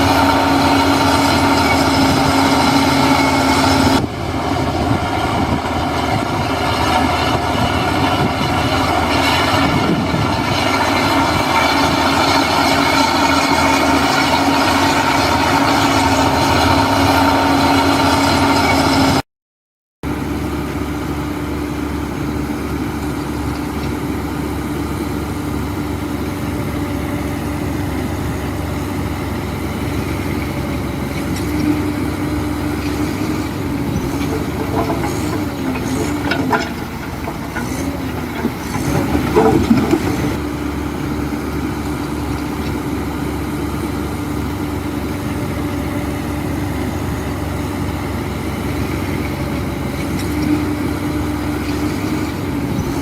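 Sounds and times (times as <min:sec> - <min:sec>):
heavy diesel engine running: 0:00.0 - 0:19.2, 0:20.0 - 0:53.0.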